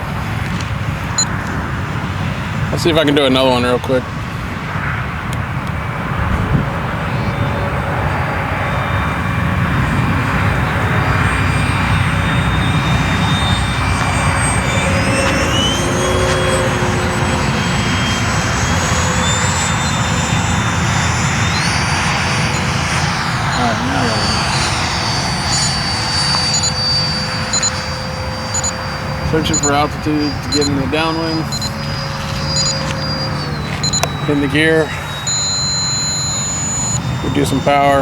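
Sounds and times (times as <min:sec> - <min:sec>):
model jet rushing whine: 0:00.0 - 0:38.0.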